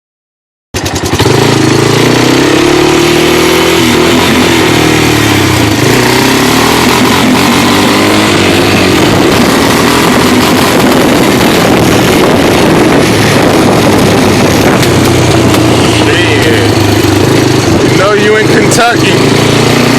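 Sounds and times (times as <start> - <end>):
off-road vehicle engine revving: 0.8 - 19.9.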